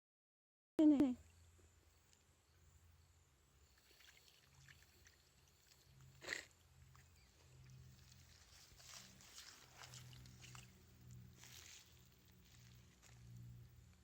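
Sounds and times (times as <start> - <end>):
low steady hum: 0.8 - 14.0.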